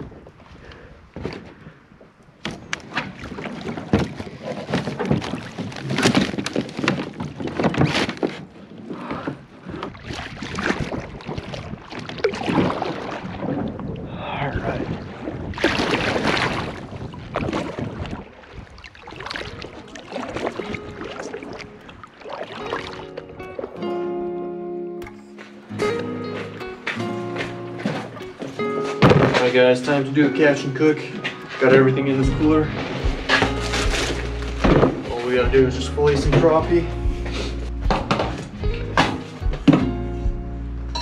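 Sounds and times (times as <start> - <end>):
paddle strokes: 0.4 - 14.0, 14.6 - 24.3, 25.2 - 41.0
water splashing: 2.4 - 24.5, 25.2 - 39.9
kayak hull scraping branches: 2.5 - 13.9, 15.2 - 23.8, 25.7 - 39.4.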